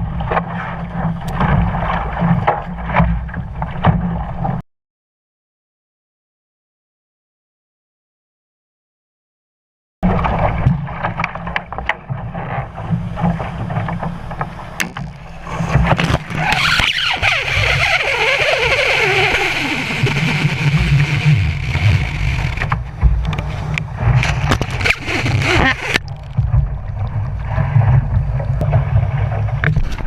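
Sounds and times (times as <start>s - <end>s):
water rushing along hull: 0.0s - 4.6s, 10.0s - 30.0s.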